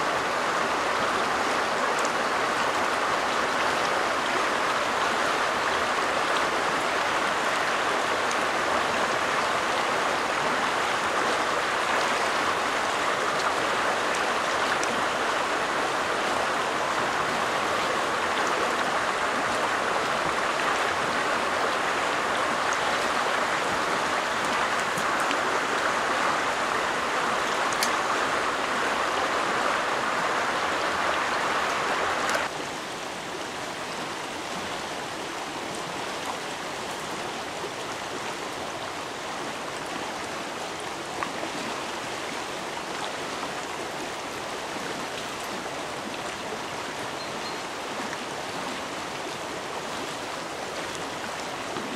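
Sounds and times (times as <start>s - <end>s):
stream running over stones: 0.0s - 51.9s.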